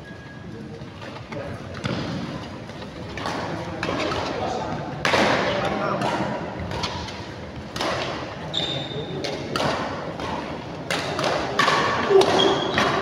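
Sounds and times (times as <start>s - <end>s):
rackets smacking shuttlecock: 1.7s - 13.0s.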